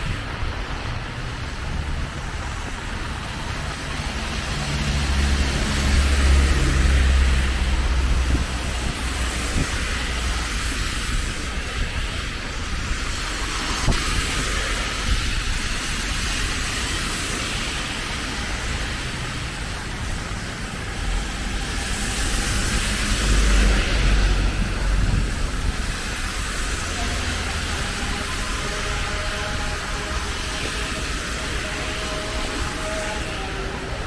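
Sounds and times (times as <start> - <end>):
rain hissing: 0.0 - 34.0
traffic on wet streets: 0.0 - 34.0
vehicles rumbling past: 0.0 - 34.0.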